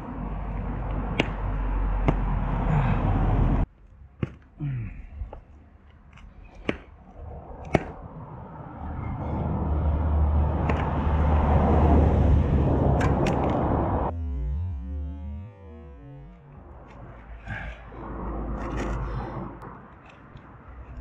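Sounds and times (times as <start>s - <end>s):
passing vehicle rumble: 0.0s - 3.7s, 7.0s - 15.1s, 15.8s - 21.0s.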